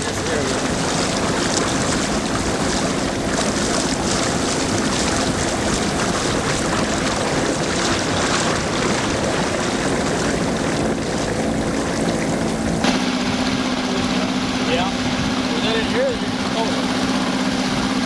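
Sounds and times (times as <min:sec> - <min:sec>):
motorboat running: 0:00.0 - 0:18.0
wind on microphone: 0:00.0 - 0:18.0.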